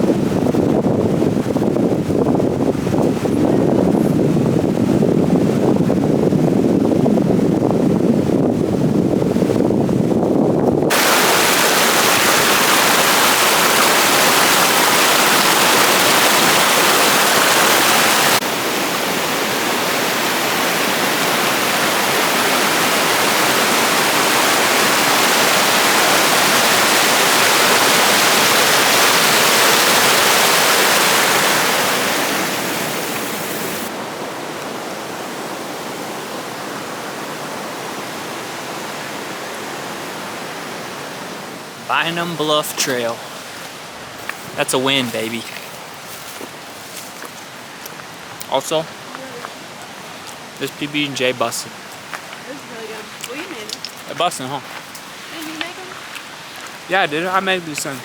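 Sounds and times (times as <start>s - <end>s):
fast-flowing river water: 10.9s - 58.0s.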